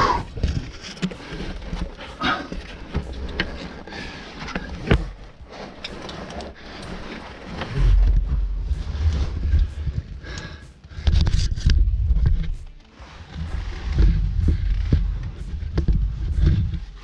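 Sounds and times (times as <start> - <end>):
gear and boots scraping rock: 0.0 - 17.0
low rubbing rumble: 0.0 - 17.0.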